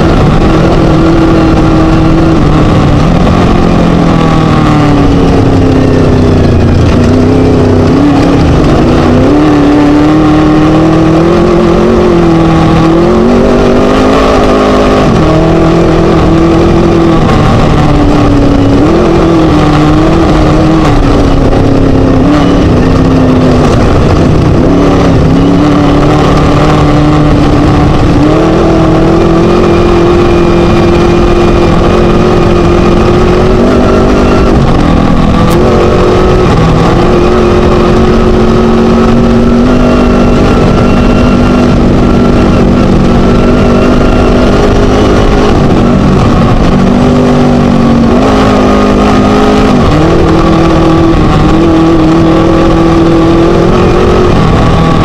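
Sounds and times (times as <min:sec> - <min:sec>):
buggy engine at full throttle: 0:00.0 - 0:55.0
wind and road noise: 0:00.0 - 0:55.0.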